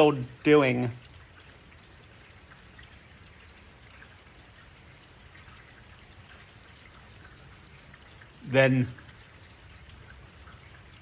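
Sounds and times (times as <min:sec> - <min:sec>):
rain falling: 0:00.0 - 0:11.0
raindrop ticks: 0:00.0 - 0:11.0.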